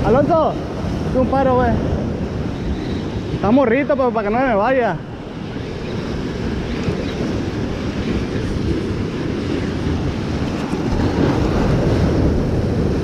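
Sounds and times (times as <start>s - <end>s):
ocean surf breaking on rocks: 0.0s - 13.0s
wind on microphone: 0.0s - 13.0s.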